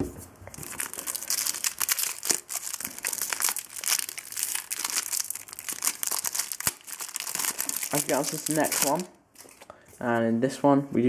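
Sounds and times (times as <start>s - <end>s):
foil wrapper crinkling: 0.5s - 9.6s.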